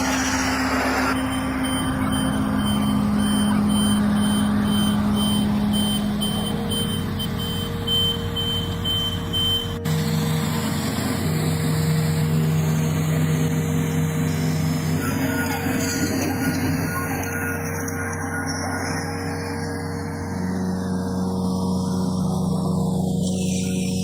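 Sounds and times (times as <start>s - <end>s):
diesel engine running: 0.0s - 24.0s
reversing alarm beeping: 0.0s - 24.0s.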